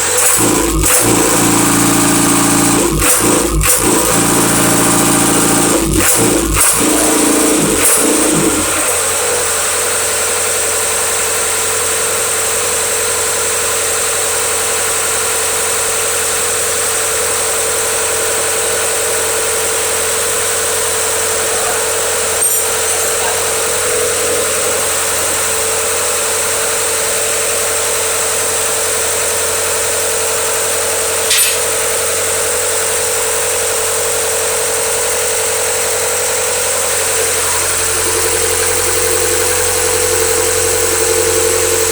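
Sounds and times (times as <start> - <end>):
generator engine droning: 0.0 - 41.9.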